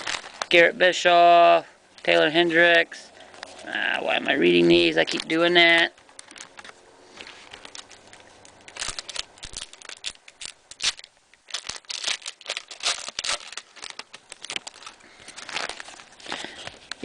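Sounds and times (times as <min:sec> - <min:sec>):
wrapper crinkling and tearing: 0:00.0 - 0:00.9, 0:03.3 - 0:17.0.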